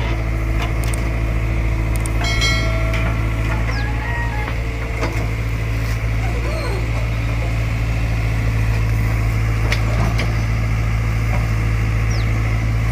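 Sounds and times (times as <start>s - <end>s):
diesel engine running under load: 0.0s - 12.9s.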